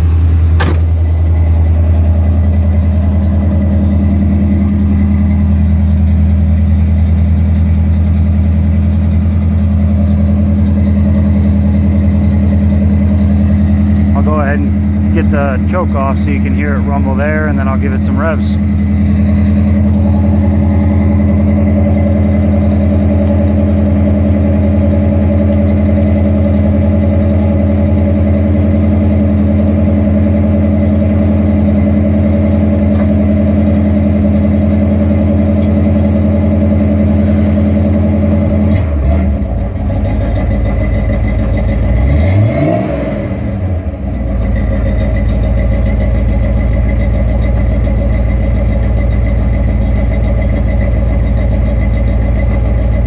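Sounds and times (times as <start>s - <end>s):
car engine idling: 0.0s - 53.0s
car engine revving: 0.0s - 53.0s.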